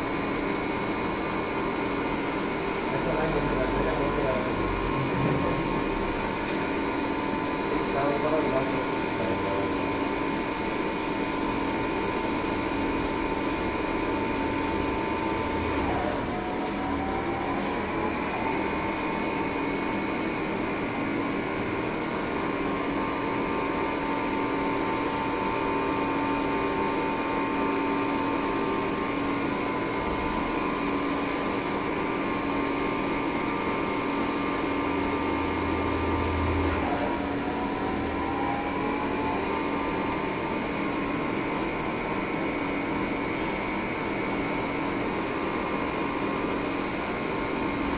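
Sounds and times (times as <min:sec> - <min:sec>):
lathe machine whine: 0:00.0 - 0:47.9.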